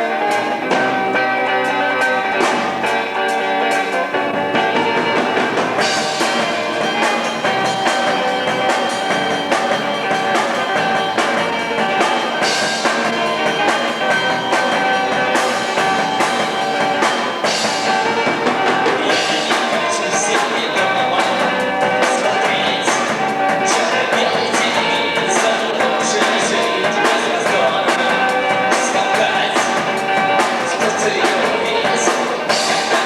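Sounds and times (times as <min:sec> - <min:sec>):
bass guitar: 0:00.0 - 0:33.0
drum kit: 0:00.0 - 0:33.0
electric guitars: 0:00.0 - 0:33.0
person singing: 0:00.0 - 0:33.0.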